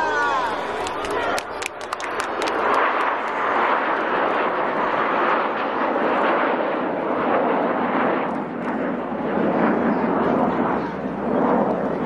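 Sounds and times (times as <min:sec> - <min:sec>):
jets flying past: 0:00.0 - 0:12.0.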